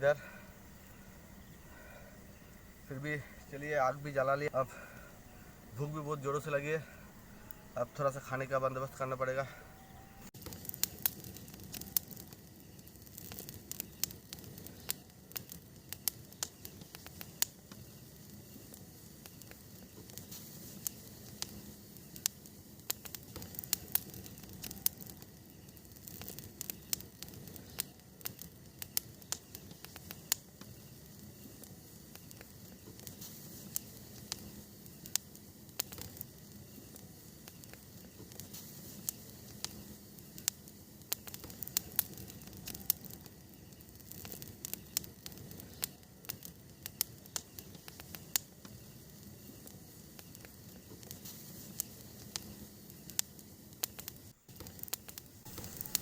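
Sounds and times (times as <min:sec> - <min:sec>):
campfire crackling and popping: 0:00.0 - 0:56.0
hiss of burning: 0:00.0 - 0:56.0.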